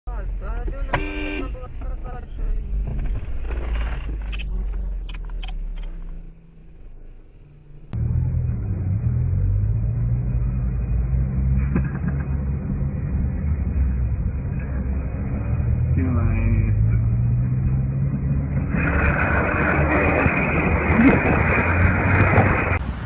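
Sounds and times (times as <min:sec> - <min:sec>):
car engine humming: 0:00.1 - 0:23.0.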